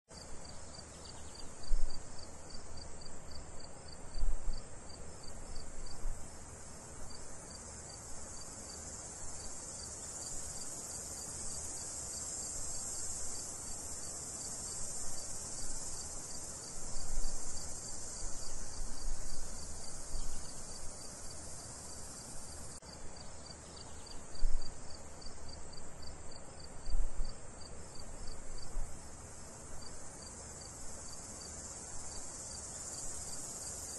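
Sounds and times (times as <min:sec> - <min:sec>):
crickets and insects trilling: 0:00.1 - 0:33.9.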